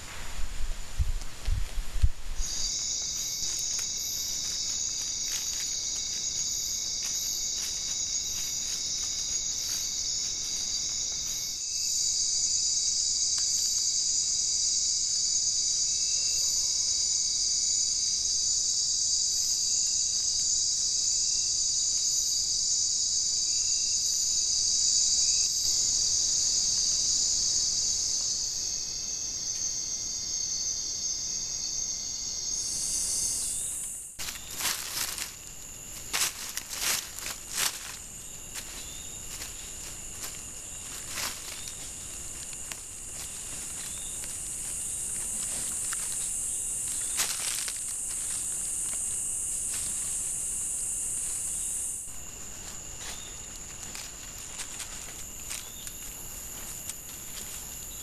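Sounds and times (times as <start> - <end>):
night insects buzzing: 0.0 - 58.0.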